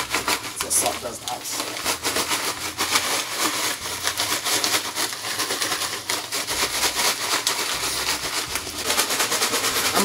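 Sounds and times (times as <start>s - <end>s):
ice rattling in shaken bags: 0.0s - 10.0s.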